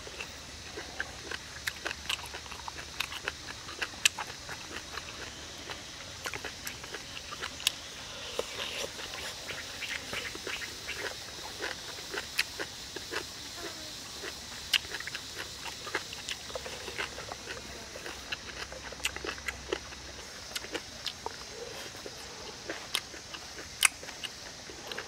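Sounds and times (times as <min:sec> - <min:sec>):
high outdoor background hiss: 0:00.0 - 0:25.0
person chewing and smacking: 0:00.2 - 0:13.4, 0:14.2 - 0:25.0.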